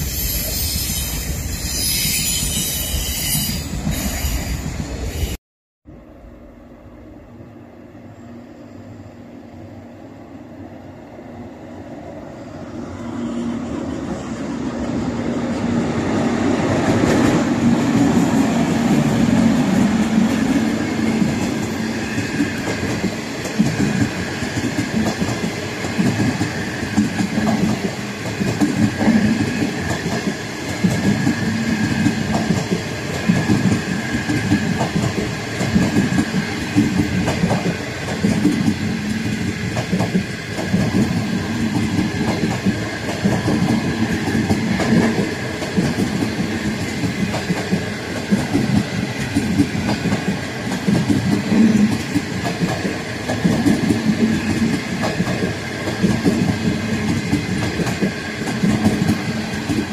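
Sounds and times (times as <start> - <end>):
passing train rumble: 0.0 - 59.9.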